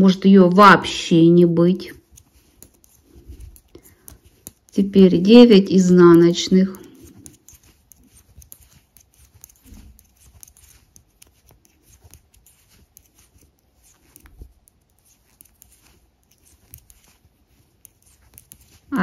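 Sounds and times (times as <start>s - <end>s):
yarn rubbing: 0.0s - 19.0s
knitting needles clicking: 1.9s - 19.0s.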